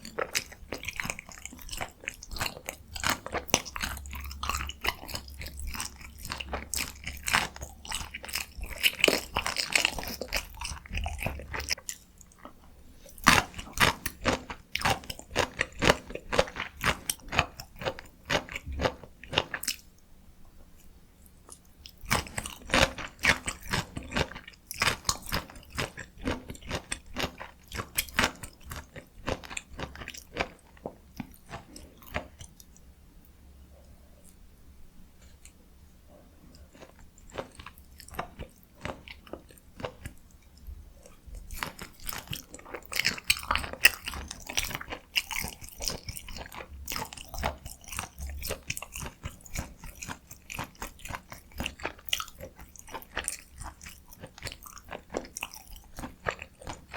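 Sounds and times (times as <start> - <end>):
close chewing with crunches: 0.0 - 20.0, 20.8 - 34.4, 35.2 - 56.9.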